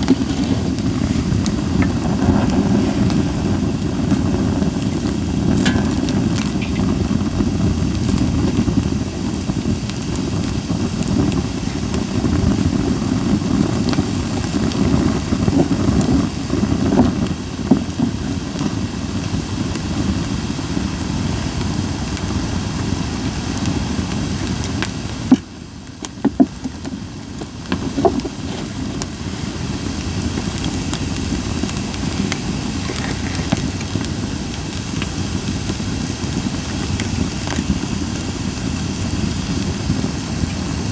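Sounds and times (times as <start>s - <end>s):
campfire rumbling: 0.0s - 40.9s
fire crackling and popping: 0.0s - 40.9s.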